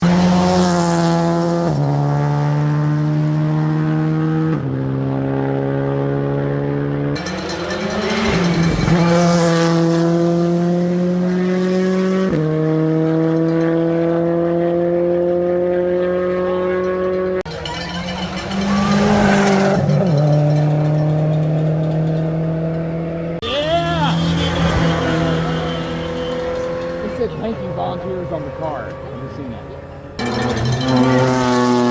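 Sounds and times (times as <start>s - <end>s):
rally car engine accelerating: 0.0s - 31.9s.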